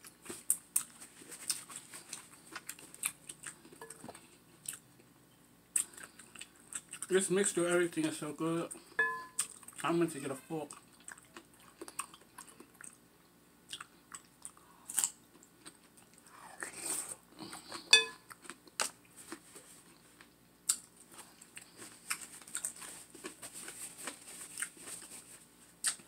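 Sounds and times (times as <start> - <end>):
chewing crisp cucumber: 0.0 - 5.1, 5.7 - 7.6, 9.4 - 10.0, 10.6 - 26.0.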